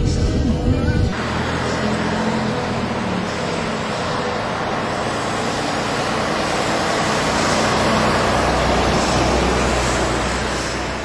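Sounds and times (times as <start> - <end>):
bus engine deep rumble: 0.0 - 11.0
road traffic passing: 0.0 - 11.0.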